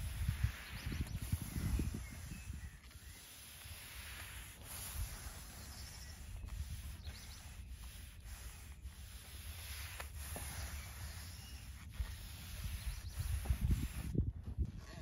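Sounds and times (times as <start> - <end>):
brush bristles rubbing on wood boards: 0.0 - 14.2.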